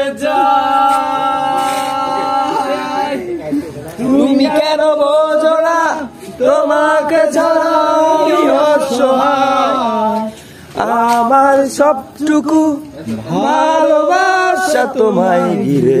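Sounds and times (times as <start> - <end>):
person singing unaccompanied: 0.0 - 3.4, 4.0 - 16.0.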